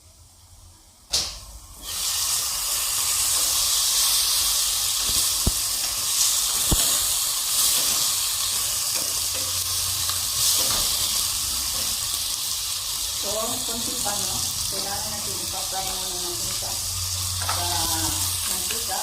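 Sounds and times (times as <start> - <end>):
chicken sizzling in oil: 1.7 - 19.0.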